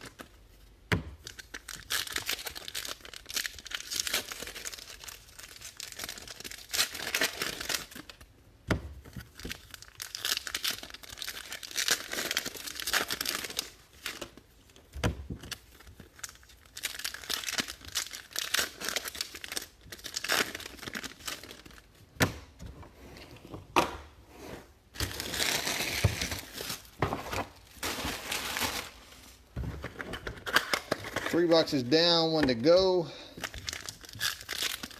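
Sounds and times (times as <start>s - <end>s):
wrappers tearing and crinkling: 1.2s - 8.3s, 9.1s - 22.0s, 25.0s - 34.9s.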